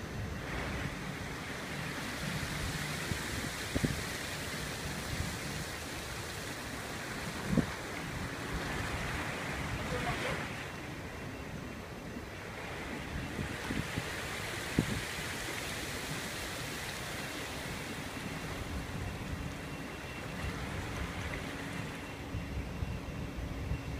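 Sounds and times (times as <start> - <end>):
sea water washing: 0.0 - 22.4
faint steady hum: 0.0 - 23.9
wind on microphone: 0.0 - 23.9.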